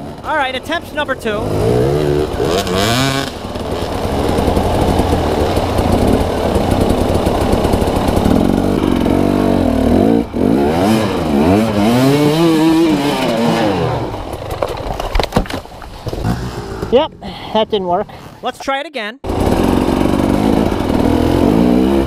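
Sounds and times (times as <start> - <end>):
dirt bike engine revving: 0.0 - 14.4, 16.1 - 17.1, 19.3 - 22.0.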